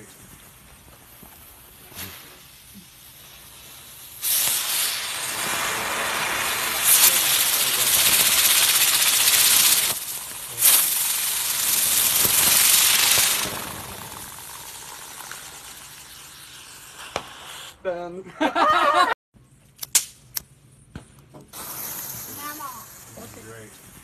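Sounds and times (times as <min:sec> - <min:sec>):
firework hissing: 0:00.0 - 0:18.2, 0:21.4 - 0:24.0.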